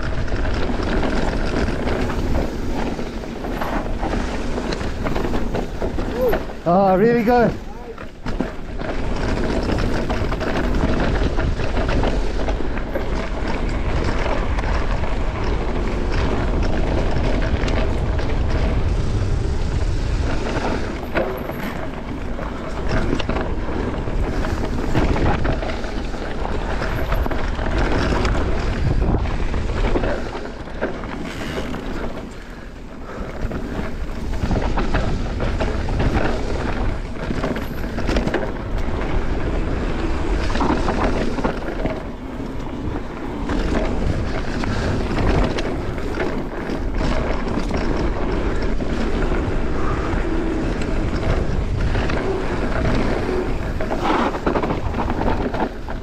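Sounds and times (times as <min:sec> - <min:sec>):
bike rattling over rocks: 0:00.0 - 0:56.0
wind rumbling on microphone: 0:00.0 - 0:56.0.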